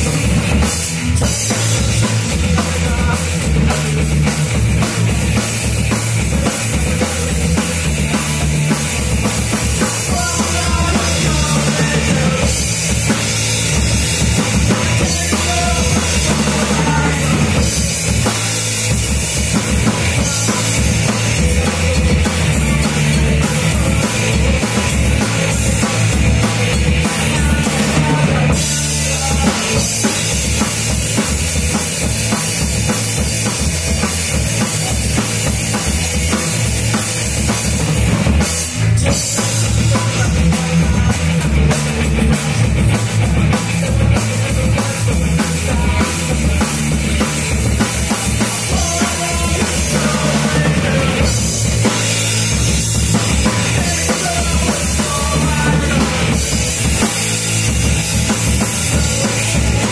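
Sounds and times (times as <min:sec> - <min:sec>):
drum kit beat: 0:00.0 - 0:59.9
electric guitars: 0:00.0 - 0:59.9
live rock band playing: 0:00.0 - 0:59.9.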